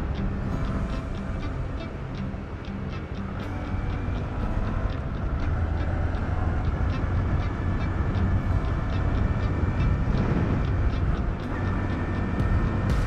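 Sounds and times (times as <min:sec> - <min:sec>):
motorcycle engine cruising: 0:00.0 - 0:13.0
rushing noise: 0:00.0 - 0:13.0.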